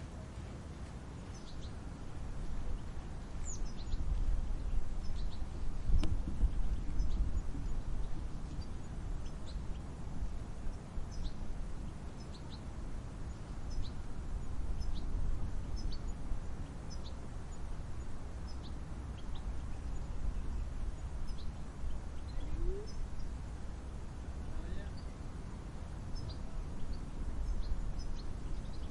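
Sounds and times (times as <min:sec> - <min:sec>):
low wind: 0:00.0 - 0:28.9
small birds chirping: 0:00.0 - 0:28.9.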